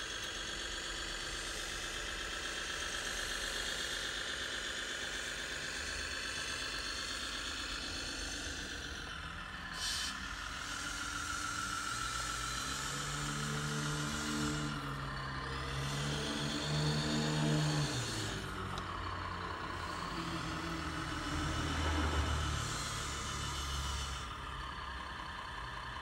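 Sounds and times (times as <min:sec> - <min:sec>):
diesel truck engine sound effect: 0:00.0 - 0:26.0
steady high whine: 0:00.0 - 0:26.0.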